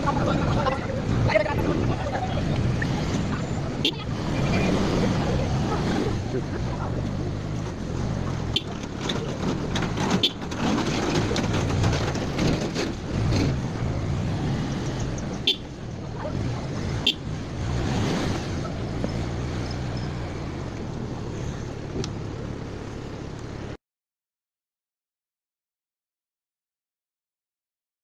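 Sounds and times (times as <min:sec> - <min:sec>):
motor traffic: 0:00.0 - 0:23.8.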